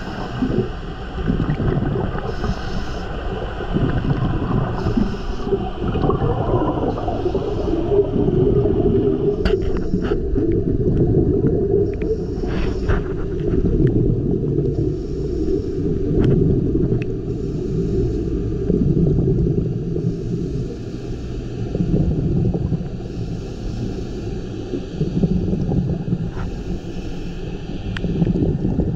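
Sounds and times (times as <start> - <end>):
muffled underwater rumble: 0.0 - 28.9.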